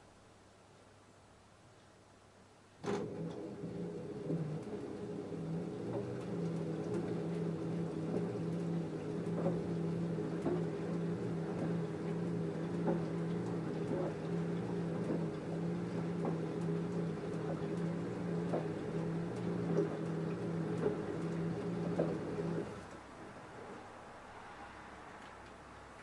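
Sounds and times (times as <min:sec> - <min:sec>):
washing machine motor hum: 0:02.8 - 0:26.0.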